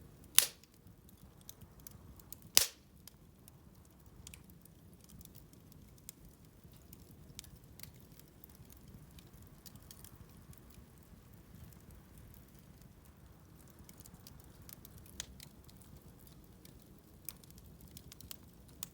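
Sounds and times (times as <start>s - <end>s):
bonfire crackling: 0.0s - 18.9s.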